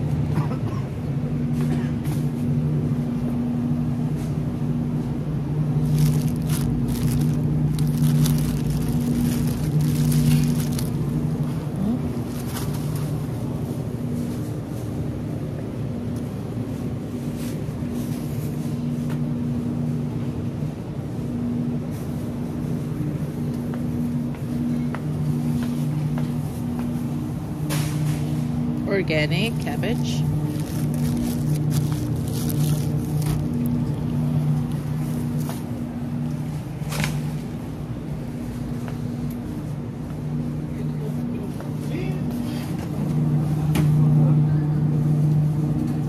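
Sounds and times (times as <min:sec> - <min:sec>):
low hum tones: 0:00.0 - 0:46.0
store background drone: 0:00.0 - 0:46.0.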